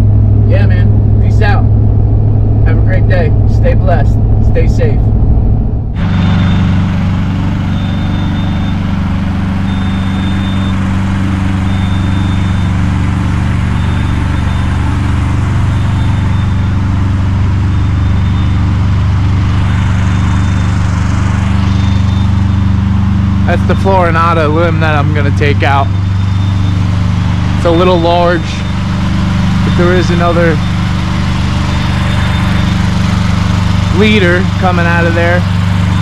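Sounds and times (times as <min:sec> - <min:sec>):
truck engine idling: 0:00.0 - 0:36.0
faint high beep: 0:06.0 - 0:36.0.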